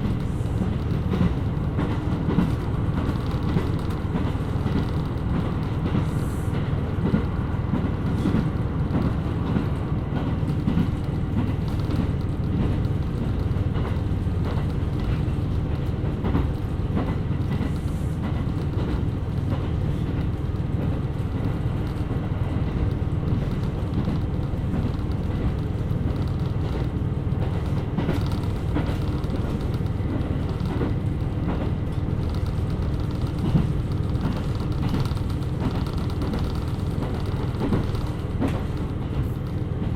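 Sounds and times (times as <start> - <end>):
diesel railcar drone: 0.0 - 39.9.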